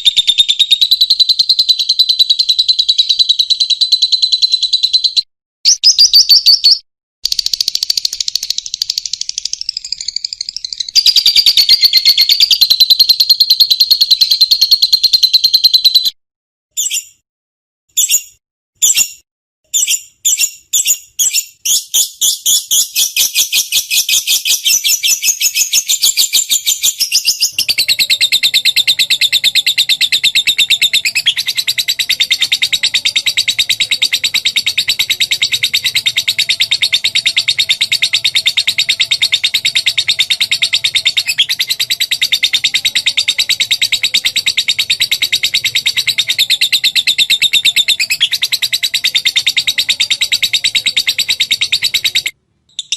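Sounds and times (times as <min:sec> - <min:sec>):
lovebird chirping and trilling: 0:00.0 - 0:16.2, 0:16.8 - 0:17.2, 0:17.9 - 0:52.9.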